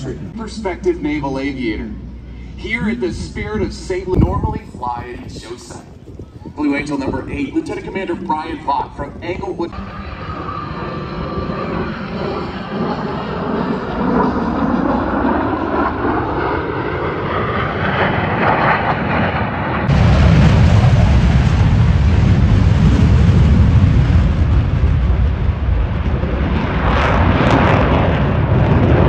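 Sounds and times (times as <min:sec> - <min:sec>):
jet roar low pass: 0:00.0 - 0:29.0.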